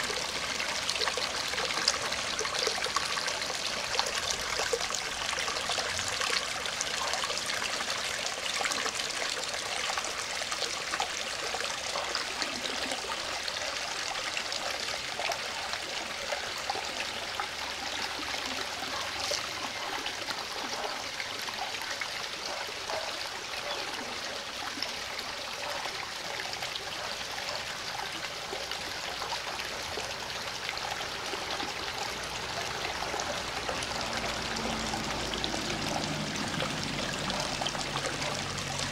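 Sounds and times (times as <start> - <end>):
creek water running over rocks: 0.0 - 38.9.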